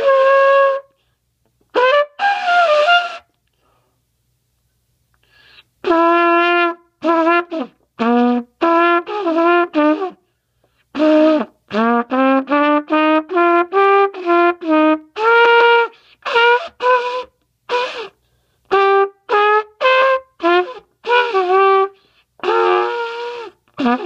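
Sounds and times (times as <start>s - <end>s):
solo trumpet melody: 0.0s - 3.4s, 5.8s - 10.3s, 10.9s - 24.0s.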